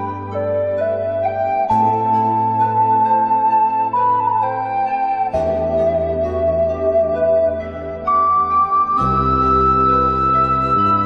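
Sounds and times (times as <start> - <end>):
soft flute-like melody: 0.0 - 11.0.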